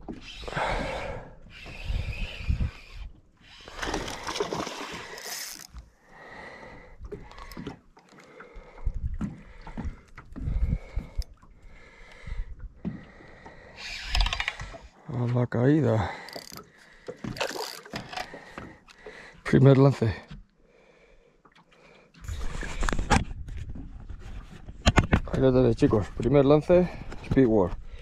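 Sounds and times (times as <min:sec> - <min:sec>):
water sloshing and splashing: 0:00.0 - 0:15.3, 0:16.1 - 0:20.4, 0:21.3 - 0:28.0.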